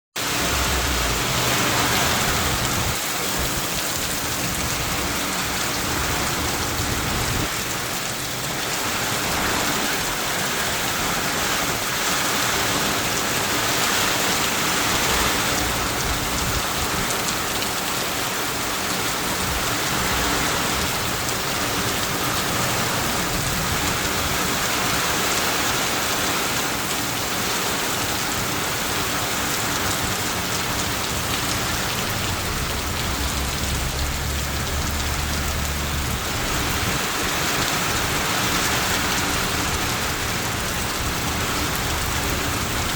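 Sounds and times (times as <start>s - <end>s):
heavy rain pouring: 0.2s - 42.9s.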